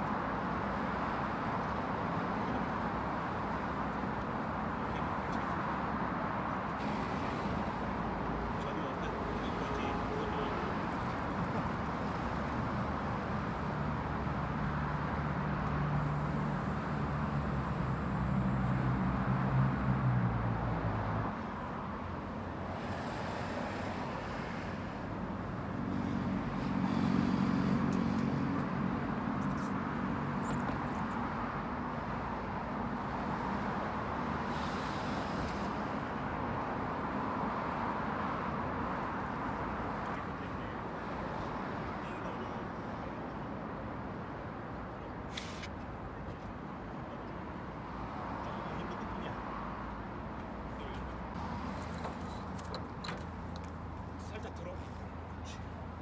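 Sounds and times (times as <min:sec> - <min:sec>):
traffic noise: 0:00.0 - 0:56.0.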